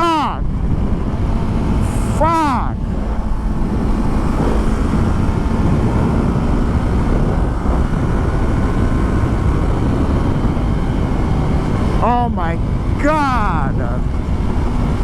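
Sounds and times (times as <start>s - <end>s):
motorcycle engine running: 0.0s - 2.2s, 2.8s - 15.0s
wind rushing over microphone: 0.0s - 15.0s.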